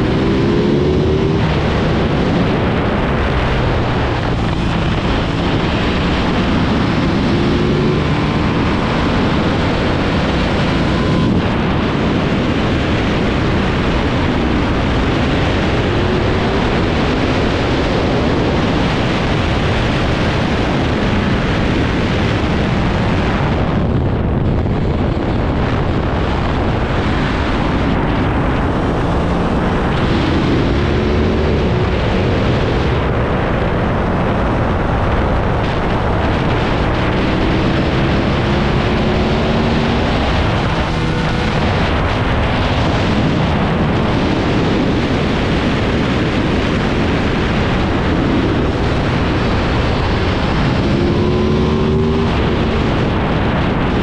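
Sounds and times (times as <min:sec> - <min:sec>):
heavy wind rush on microphone: 0:00.0 - 0:54.0
motorcycle engine revving: 0:00.0 - 0:54.0.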